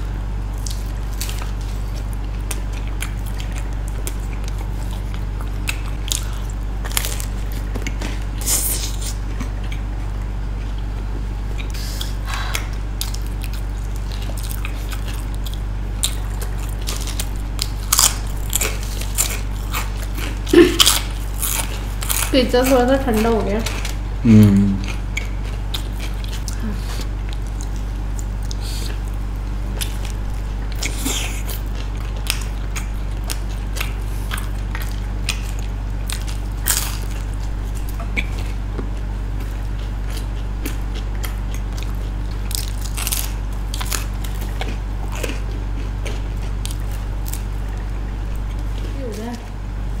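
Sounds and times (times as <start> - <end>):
people chewing pizza: 0.0 - 50.0
steady low hum: 0.0 - 50.0.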